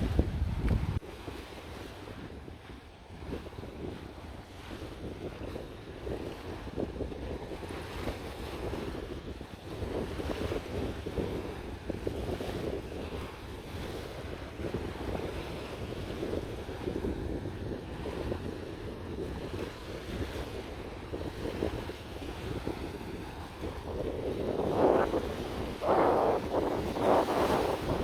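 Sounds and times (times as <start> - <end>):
sea waves washing: 0.0 - 28.0
wind rumbling on microphone: 0.0 - 28.0.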